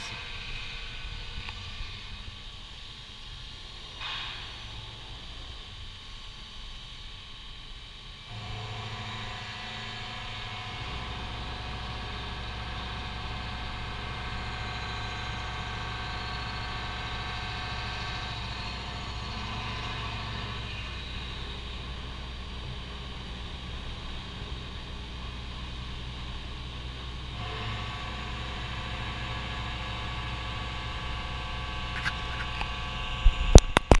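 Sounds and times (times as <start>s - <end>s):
boring mill spindle humming: 0.0s - 34.0s.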